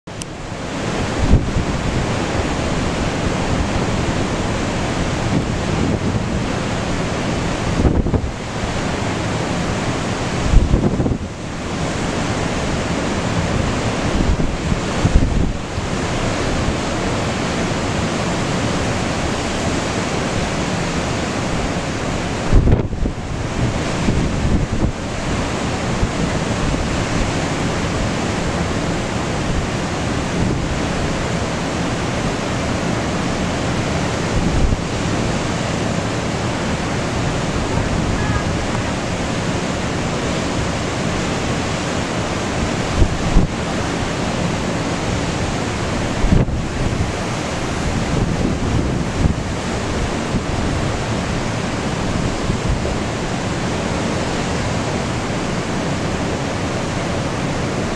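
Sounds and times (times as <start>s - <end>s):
heavy surf breaking: 0.1s - 57.9s
wind buffeting microphone: 0.1s - 57.9s.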